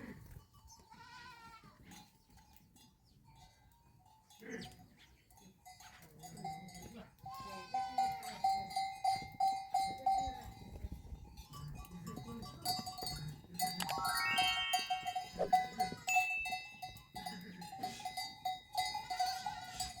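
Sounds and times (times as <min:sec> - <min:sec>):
animal bells clanking: 0:00.0 - 0:20.0.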